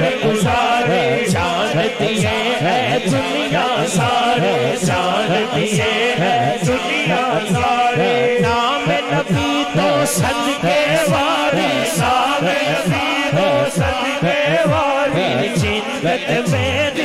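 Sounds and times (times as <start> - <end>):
man singing through microphone: 0.0 - 17.0.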